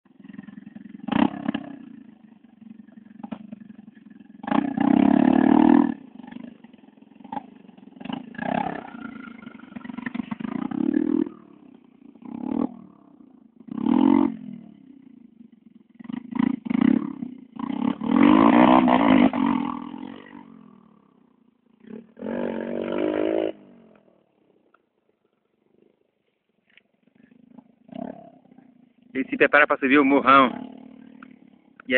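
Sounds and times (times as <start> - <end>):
motocross bike engine revving: 0.1 - 24.3, 27.1 - 31.9.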